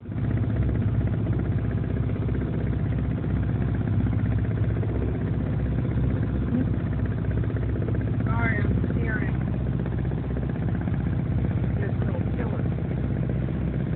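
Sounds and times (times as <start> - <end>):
marine diesel engine throbbing: 0.0 - 13.9.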